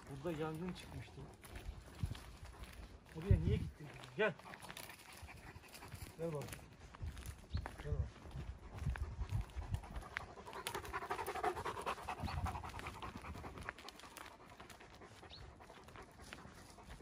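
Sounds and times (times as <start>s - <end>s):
dog panting: 0.0s - 6.8s, 8.1s - 17.0s.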